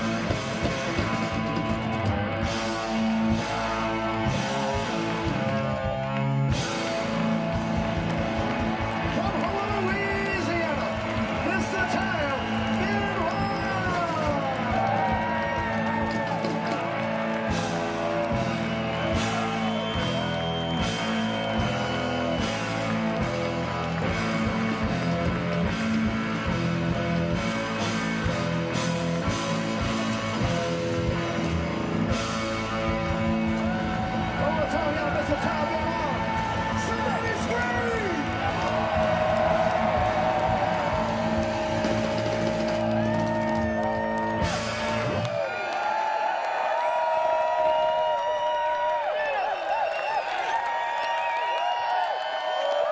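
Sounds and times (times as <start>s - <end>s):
drums with cymbal and snare: 0.0s - 5.8s, 6.5s - 45.2s
crowd whooping: 0.0s - 52.9s.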